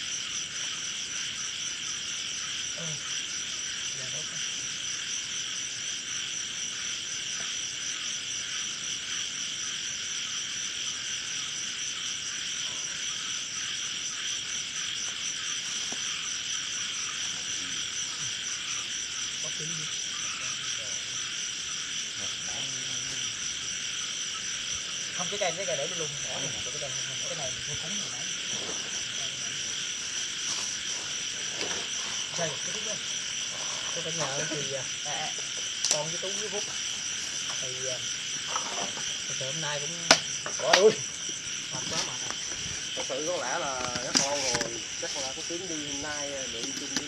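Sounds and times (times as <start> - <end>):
crickets and insects trilling: 0.0 - 47.0.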